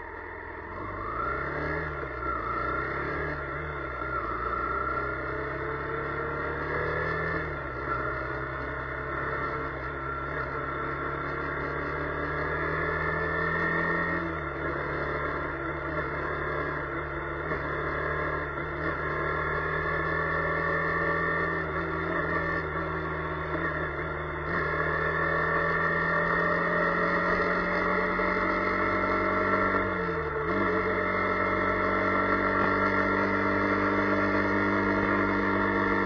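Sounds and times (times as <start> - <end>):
vehicle engine accelerating: 0.0 - 36.0.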